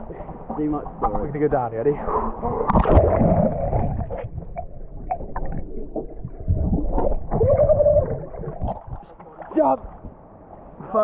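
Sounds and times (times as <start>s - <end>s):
muffled river water rumble: 0.0s - 11.0s.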